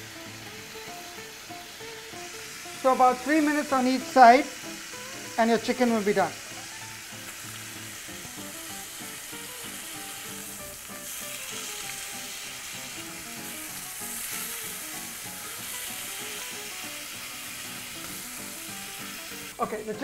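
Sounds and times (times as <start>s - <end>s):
chicken frying in hot oil: 0.0s - 20.0s.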